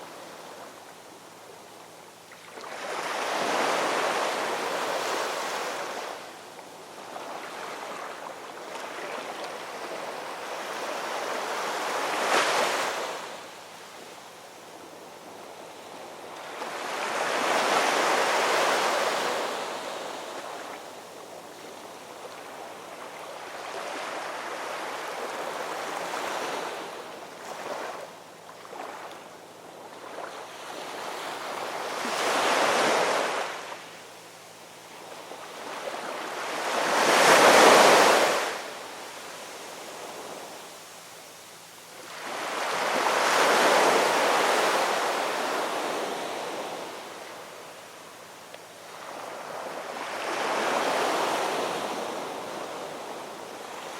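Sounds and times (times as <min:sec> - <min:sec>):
ocean waves breaking on shore: 0:02.3 - 0:13.6, 0:15.1 - 0:34.0, 0:34.9 - 0:40.8, 0:42.0 - 0:48.2, 0:48.8 - 0:53.9.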